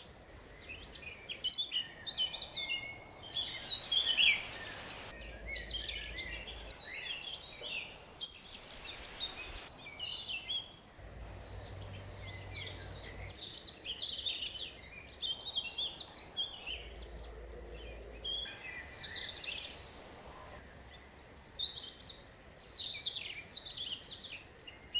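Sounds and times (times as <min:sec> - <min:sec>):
birds singing: 0:00.0 - 0:24.9
steady outdoor hiss: 0:00.0 - 0:24.9.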